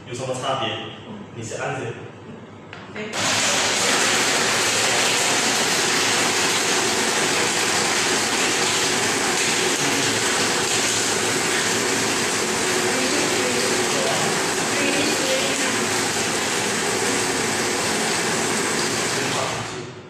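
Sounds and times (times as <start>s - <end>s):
blender crushing ice: 3.1s - 19.9s.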